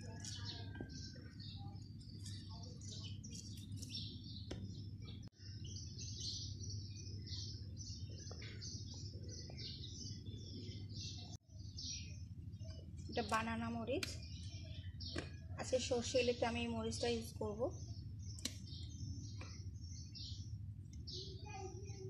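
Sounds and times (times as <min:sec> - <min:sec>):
low background hum: 0:00.0 - 0:22.0
small birds chirping: 0:00.0 - 0:22.0.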